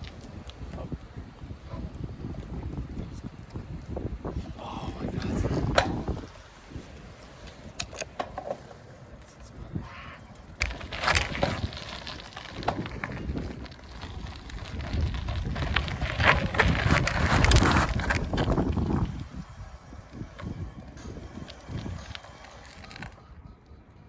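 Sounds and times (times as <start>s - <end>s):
bicycle clicks and rattles: 0.0s - 23.7s
bicycle road and wind noise: 0.0s - 24.0s.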